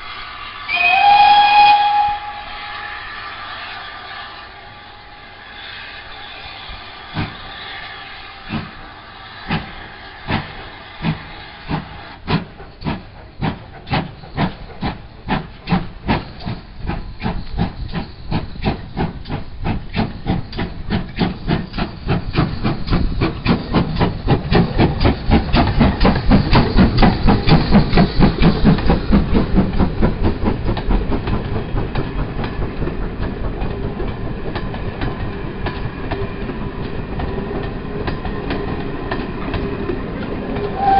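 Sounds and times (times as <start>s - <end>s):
steam hissing: 0.0s - 40.9s
steam locomotive chuffing: 0.0s - 40.9s.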